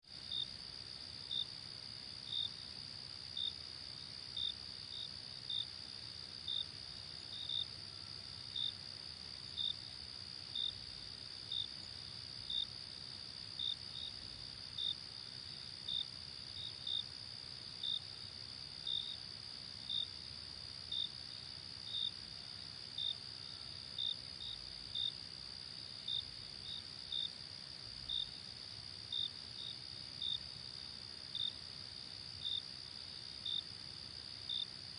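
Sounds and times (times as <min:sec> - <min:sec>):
cricket chirps: 0:00.1 - 0:34.9.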